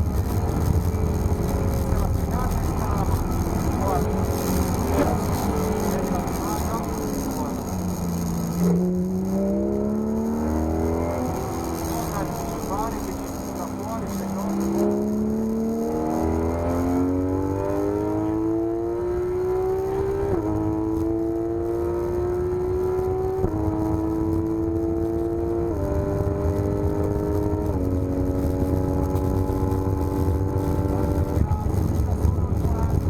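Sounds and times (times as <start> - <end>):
car engine accelerating hard: 0.0 - 33.0
low road rumble: 0.0 - 33.0.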